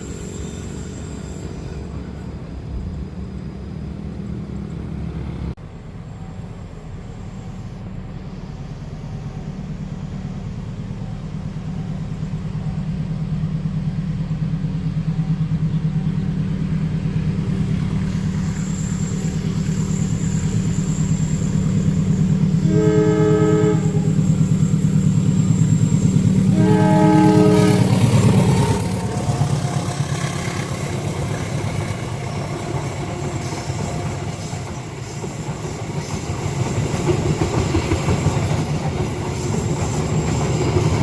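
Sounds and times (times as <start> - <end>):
diesel train engine rumble: 0.0 - 41.0.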